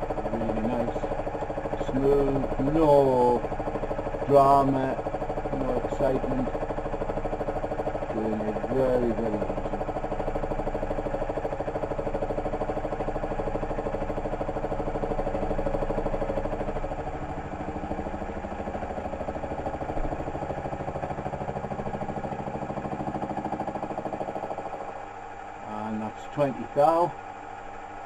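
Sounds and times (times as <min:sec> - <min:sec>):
milling machine cutting aluminium: 0:00.0 - 0:24.8.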